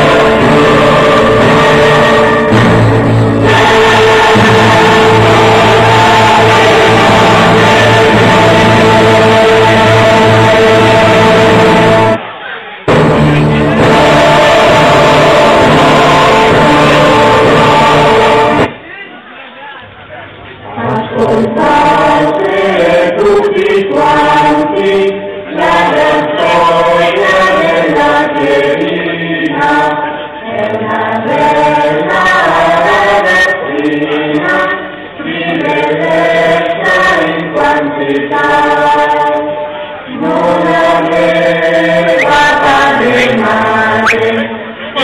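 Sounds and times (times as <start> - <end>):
choir singing a slow chant: 0.0 - 18.7, 20.6 - 45.0.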